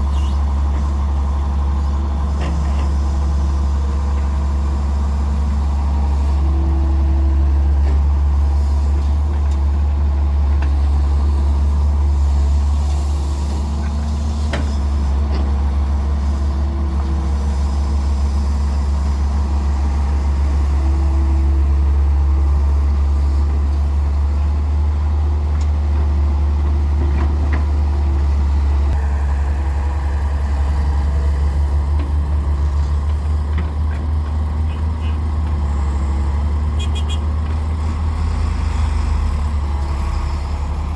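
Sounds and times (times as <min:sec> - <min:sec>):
heavy diesel engine humming: 0:00.0 - 0:40.9.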